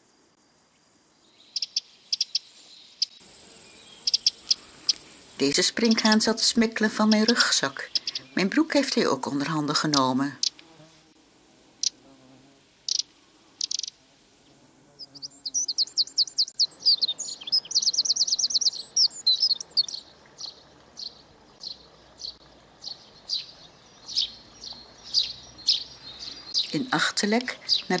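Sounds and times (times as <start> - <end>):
sparrow chirping: 1.3 - 10.8, 12.9 - 14.0, 14.9 - 28.0.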